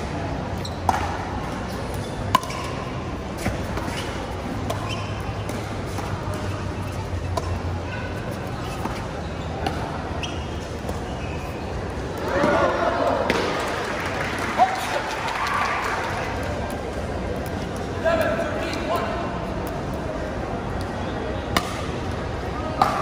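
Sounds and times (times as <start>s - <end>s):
murmur of crowd chatter: 0.0s - 23.0s.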